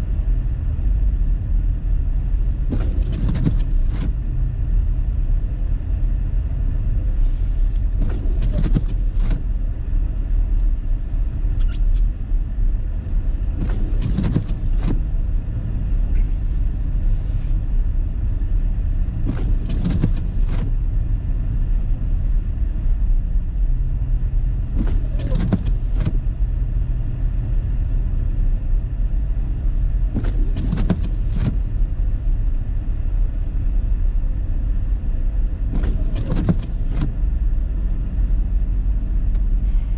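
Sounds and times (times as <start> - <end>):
car engine and tyres on snow: 0.0 - 39.9.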